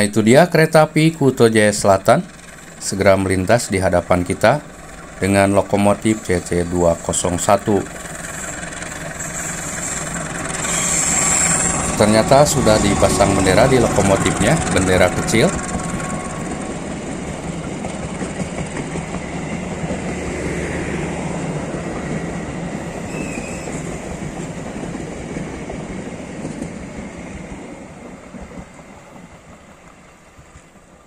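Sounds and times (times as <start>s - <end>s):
passenger train rumbling past: 0.0s - 31.0s.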